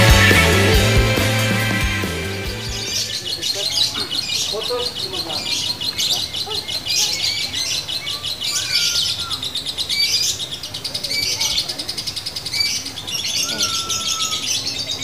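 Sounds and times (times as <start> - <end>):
lovebird chattering trill: 2.6 - 15.0.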